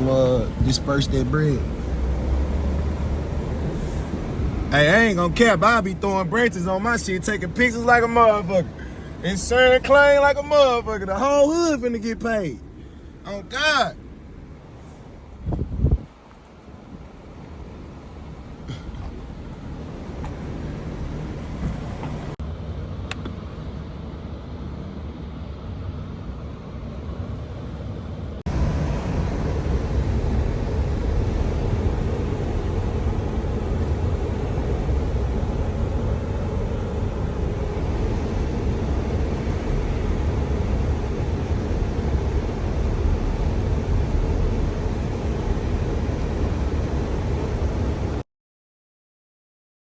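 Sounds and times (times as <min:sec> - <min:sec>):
car tyre and engine rumble: 0:00.0 - 0:48.2.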